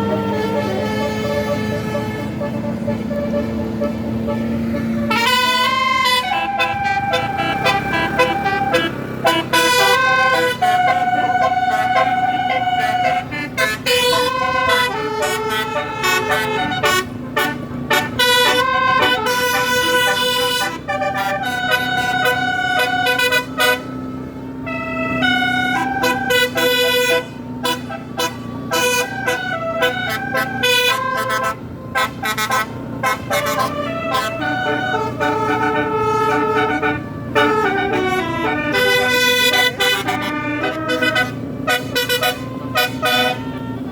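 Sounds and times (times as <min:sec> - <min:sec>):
bus air horns playing a tune: 0:00.0 - 0:43.9.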